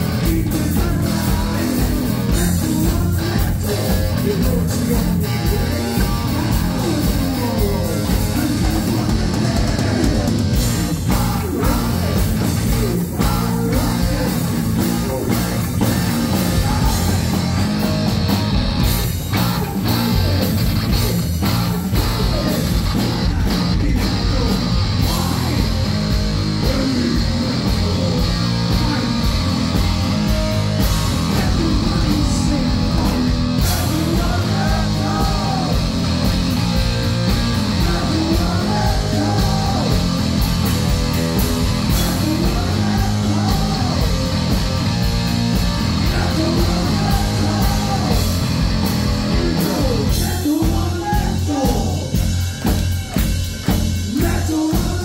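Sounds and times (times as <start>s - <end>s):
man singing: 0.0s - 17.9s, 19.2s - 29.4s, 31.1s - 36.1s, 37.6s - 40.3s, 41.8s - 44.6s, 45.9s - 48.4s, 49.0s - 52.4s, 54.1s - 55.0s
bass guitar: 0.0s - 55.0s
distorted electric guitar: 0.0s - 55.0s
pounding drum kit: 0.0s - 55.0s.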